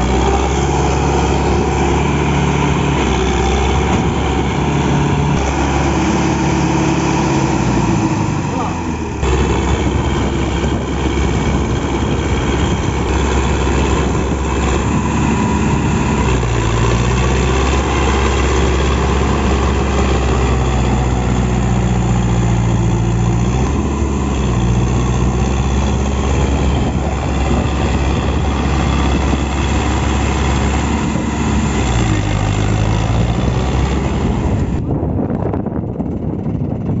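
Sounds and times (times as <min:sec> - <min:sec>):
tractor diesel engine running hard: 0:00.0 - 0:37.0.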